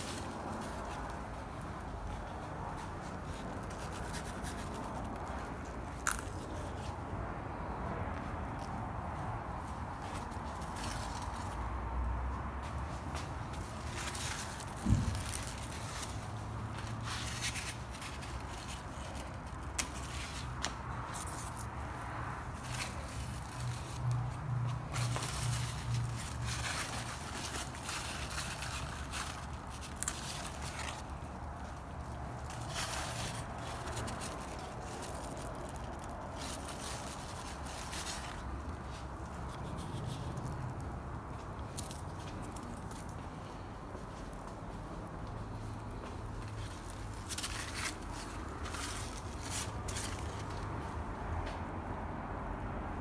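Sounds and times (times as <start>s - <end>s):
rustling leaves and vines: 0.0s - 51.7s
low background noise: 0.0s - 53.0s.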